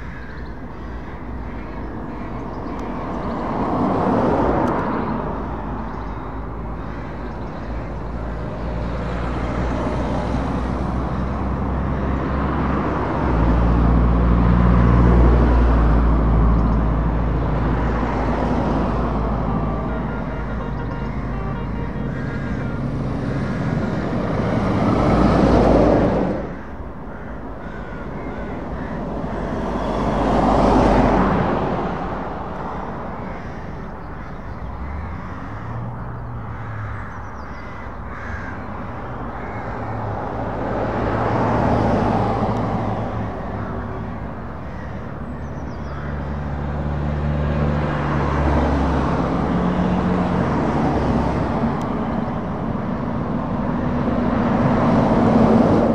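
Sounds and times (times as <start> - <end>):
lorry diesel engine drone: 0.0 - 55.9
vehicles passing: 0.0 - 55.9.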